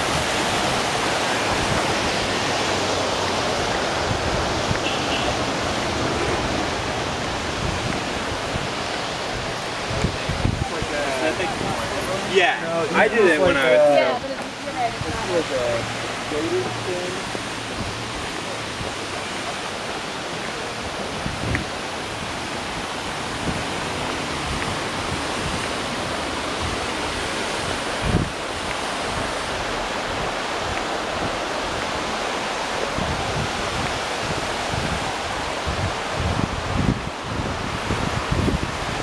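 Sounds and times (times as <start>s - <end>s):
steady rushing outdoor noise: 0.0s - 39.0s.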